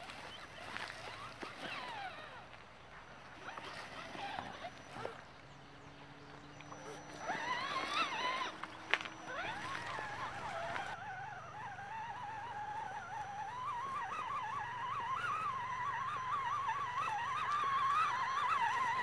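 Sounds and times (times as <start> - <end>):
electric motor and gear whine: 0.0 - 19.0.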